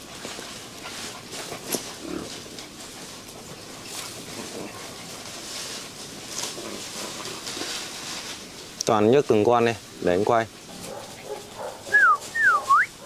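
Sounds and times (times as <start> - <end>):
puppies scuffling: 0.0 - 13.0.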